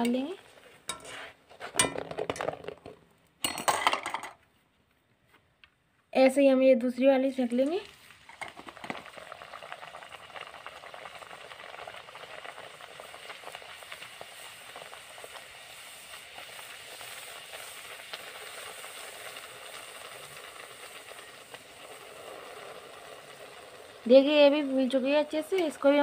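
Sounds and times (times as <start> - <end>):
food sizzling in hot oil: 0.0 - 2.9, 7.0 - 26.0.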